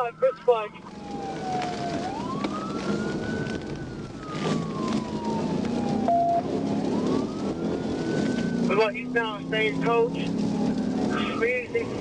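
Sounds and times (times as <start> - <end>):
car engine and road noise: 0.0 - 12.0
police siren wailing: 0.0 - 12.0.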